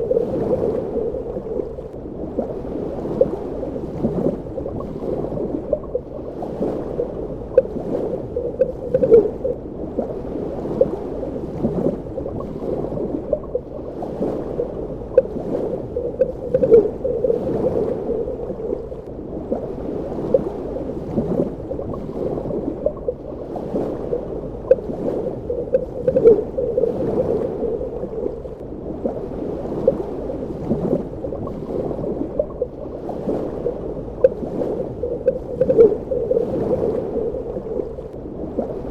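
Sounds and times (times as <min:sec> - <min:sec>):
bubbling gurgles: 0:00.0 - 0:29.2, 0:29.9 - 0:38.9
underwater wash of water: 0:00.0 - 0:38.9.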